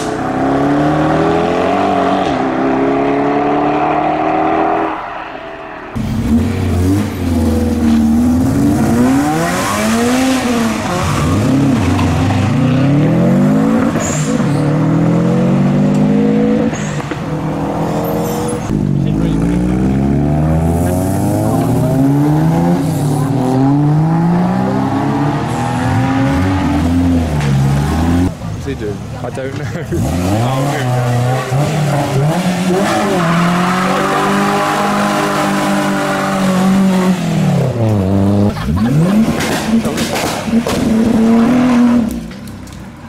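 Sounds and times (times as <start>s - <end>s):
car engine revving: 0.0s - 42.8s.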